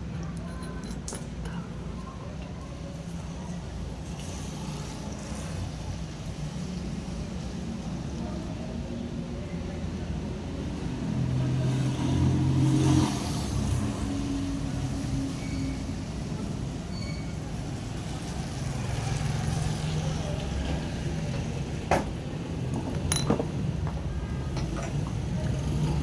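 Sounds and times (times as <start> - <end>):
faint voices: 0.0 - 26.0.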